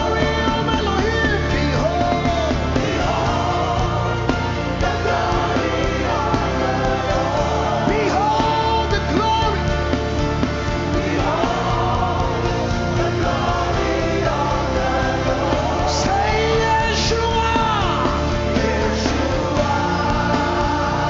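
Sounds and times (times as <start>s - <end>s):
band accompaniment: 0.0s - 21.0s
voices singing gospel: 0.0s - 21.0s.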